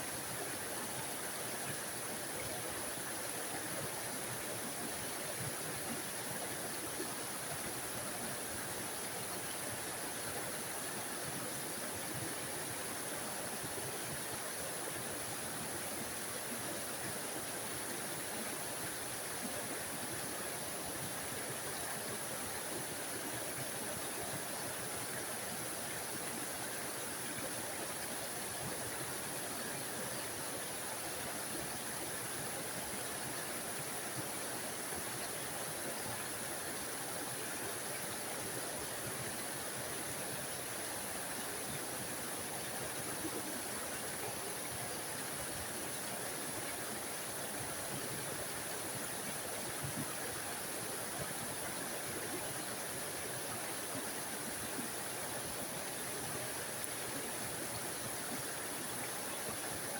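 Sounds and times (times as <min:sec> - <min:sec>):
small waterfall rushing: 0:00.0 - 0:59.9.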